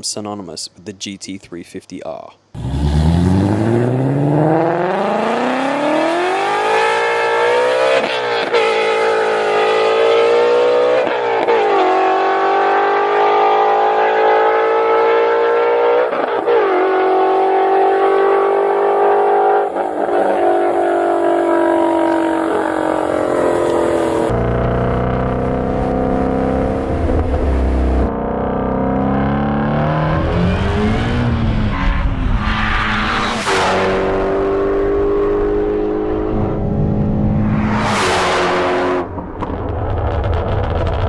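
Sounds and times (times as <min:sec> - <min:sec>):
car engine accelerating hard: 0:02.6 - 0:41.0.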